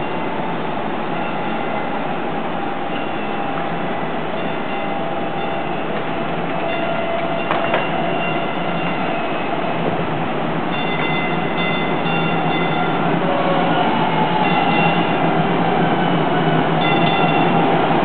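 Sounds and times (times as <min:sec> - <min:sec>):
light rail train approaching: 0:00.0 - 0:18.0.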